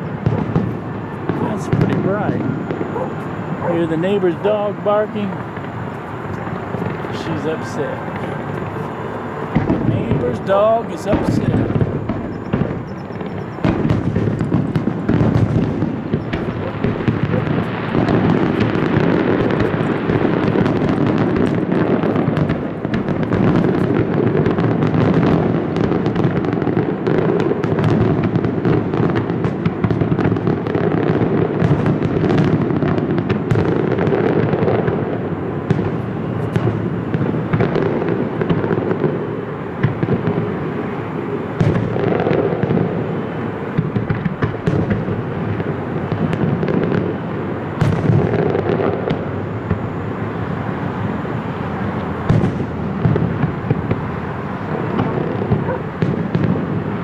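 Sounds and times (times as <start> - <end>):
fireworks booming: 0.0 - 57.0
sharp fireworks cracks: 0.0 - 57.0.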